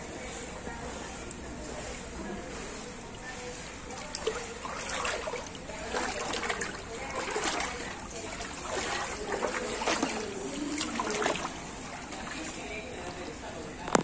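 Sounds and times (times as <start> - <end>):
floodwater sloshing and splashing: 0.0 - 14.0.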